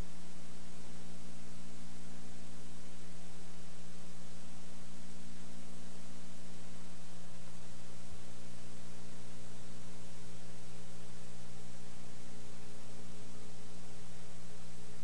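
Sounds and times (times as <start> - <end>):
electrical mains hum: 0.0 - 15.0
tape hiss: 0.0 - 15.0.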